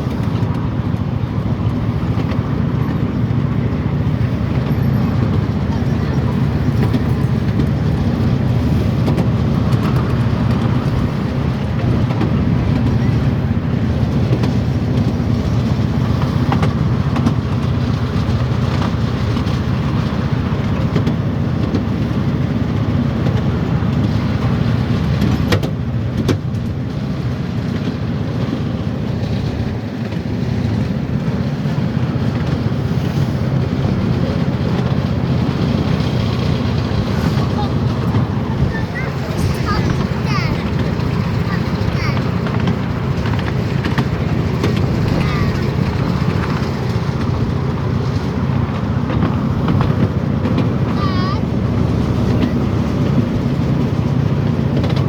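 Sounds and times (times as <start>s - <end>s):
moving train rumbling: 0.0s - 55.0s.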